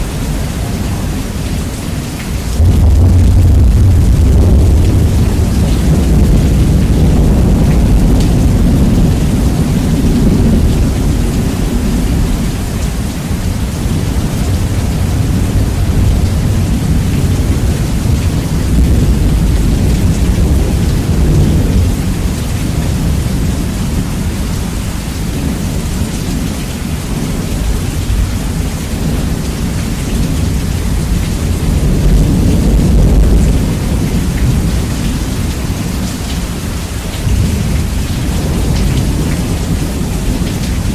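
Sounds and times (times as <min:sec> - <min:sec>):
heavy rain: 0:00.0 - 0:40.9
rolling thunder: 0:00.0 - 0:40.9.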